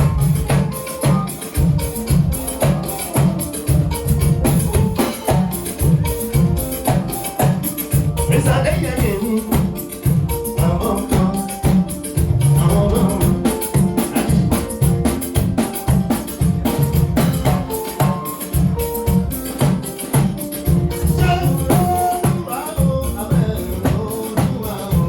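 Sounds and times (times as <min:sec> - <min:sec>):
band music: 0:00.0 - 0:25.0
drums: 0:00.0 - 0:25.0
shaker percussion: 0:00.0 - 0:25.0.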